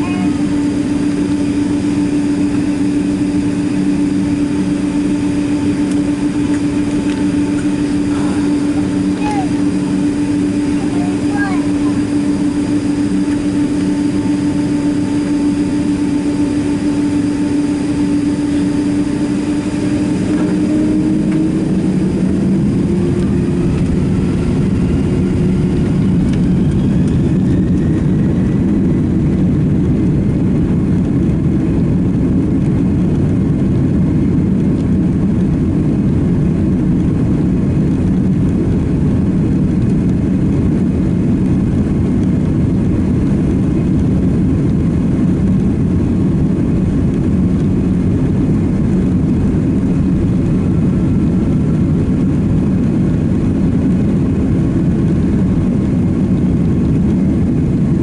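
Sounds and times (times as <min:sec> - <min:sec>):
faint whines rising in pitch: 0:00.0 - 0:58.0
jet engines humming in cabin: 0:00.0 - 0:58.0.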